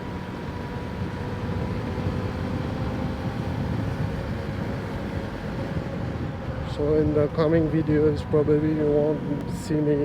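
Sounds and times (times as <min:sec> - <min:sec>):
wind noise in helmet: 0:00.0 - 0:10.0.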